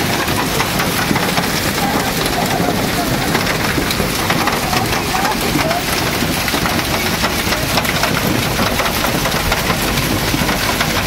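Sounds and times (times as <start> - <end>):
hail and heavy rain pelting: 0.0 - 11.0.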